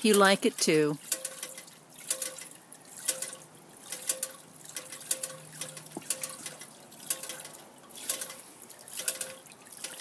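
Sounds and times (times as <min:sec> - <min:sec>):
fountain water trickling and splashing: 0:00.0 - 0:10.0.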